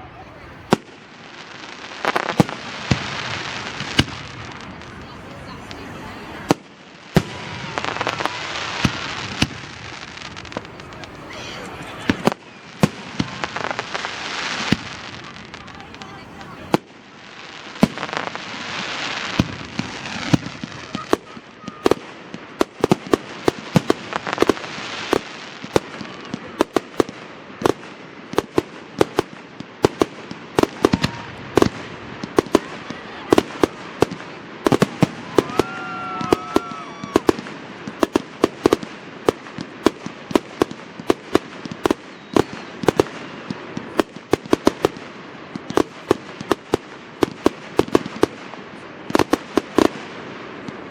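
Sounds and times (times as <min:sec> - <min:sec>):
firework bangs: 0:00.0 - 0:50.9
firework crackling: 0:00.0 - 0:50.9.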